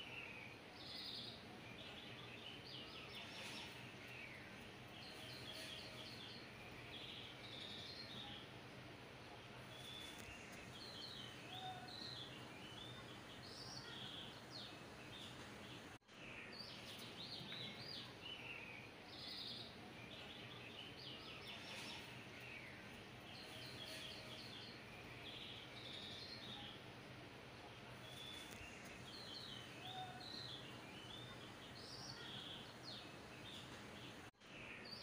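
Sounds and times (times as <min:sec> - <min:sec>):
small birds chirping and trilling: 0:00.0 - 0:35.0
steady low hiss: 0:00.0 - 0:35.0.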